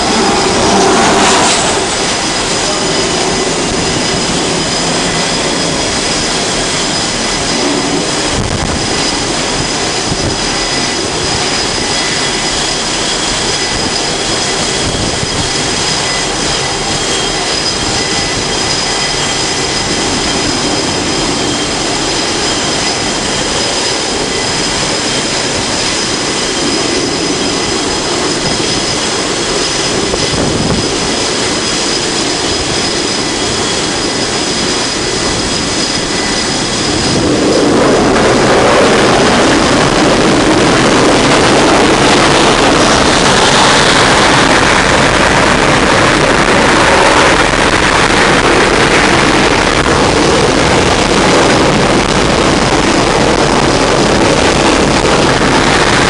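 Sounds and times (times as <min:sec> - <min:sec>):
high-pitched engine whine: 0:00.0 - 0:56.0
jet engines roaring: 0:00.0 - 0:56.0.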